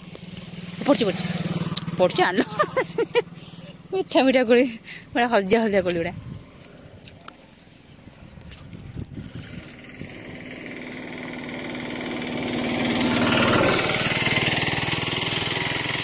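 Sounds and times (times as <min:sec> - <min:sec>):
motorbike engine running: 0:00.0 - 0:06.4, 0:08.8 - 0:16.0.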